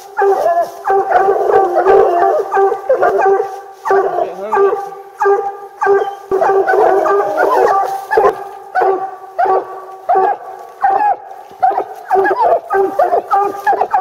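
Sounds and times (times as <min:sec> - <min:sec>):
dogs howling barks: 0:00.0 - 0:14.0.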